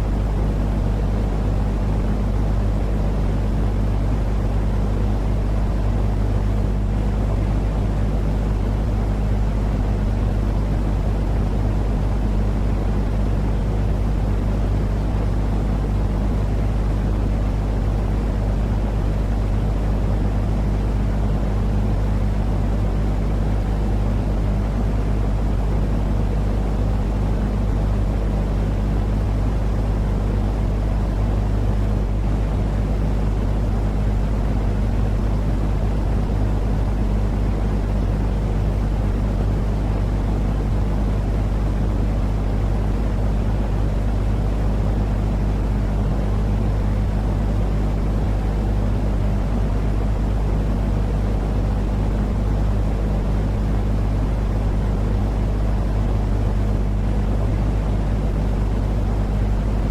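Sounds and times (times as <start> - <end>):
low droning noise with hum: 0.0 - 59.9.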